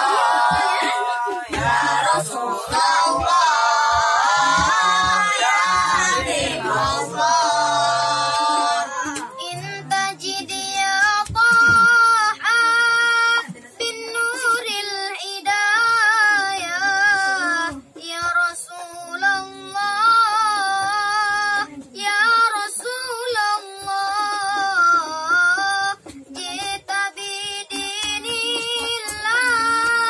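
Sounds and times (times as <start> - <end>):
child singing unaccompanied: 0.0 - 30.0.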